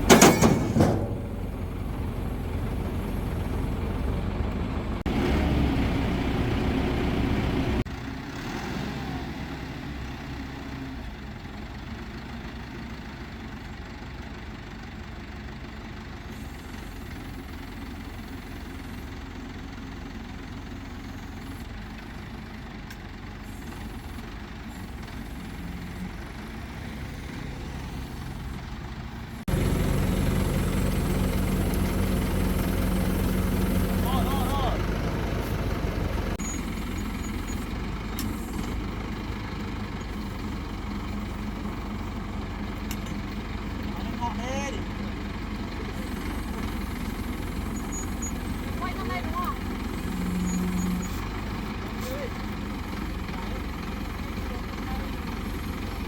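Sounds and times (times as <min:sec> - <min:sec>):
crane engine rumbling: 0:00.0 - 0:56.0.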